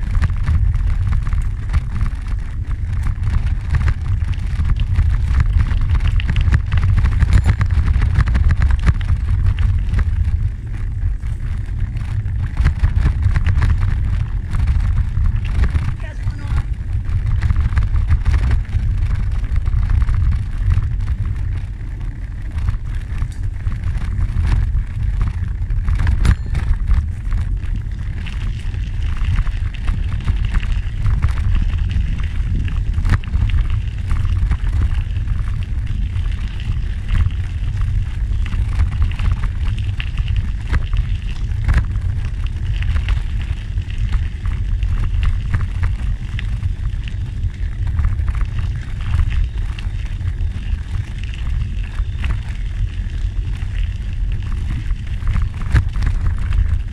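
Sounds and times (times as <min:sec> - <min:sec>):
gravel crunching: 0:00.0 - 0:56.9
wind buffeting microphone: 0:00.0 - 0:56.9.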